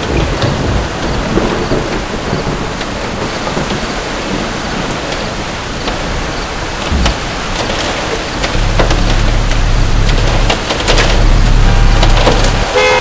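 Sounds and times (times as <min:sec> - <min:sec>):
hailstones hitting car body and glass: 0:00.0 - 0:13.0
heavy rain on a car: 0:00.0 - 0:13.0.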